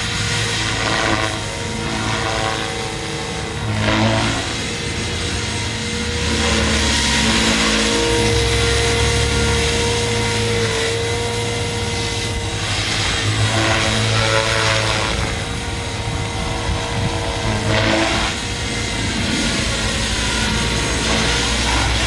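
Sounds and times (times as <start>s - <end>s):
model helicopter motor whine: 0.0s - 22.0s.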